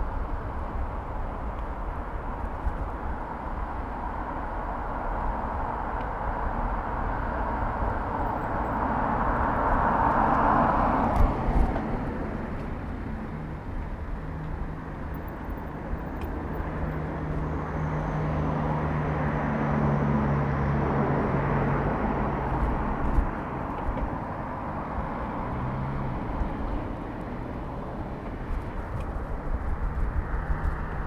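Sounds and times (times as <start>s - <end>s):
vehicle engine hum passing: 0.0s - 31.0s.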